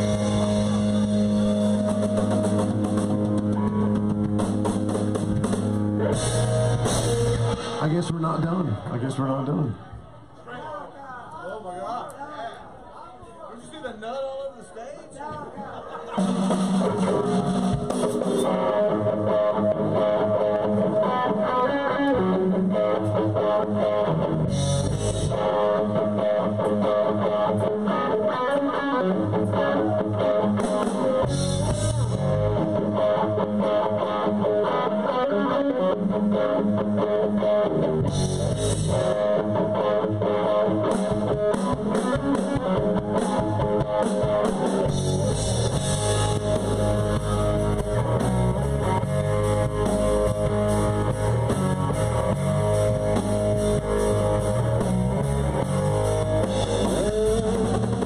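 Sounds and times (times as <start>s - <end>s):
rock band with electric guitar: 0.0s - 10.5s, 15.4s - 58.0s.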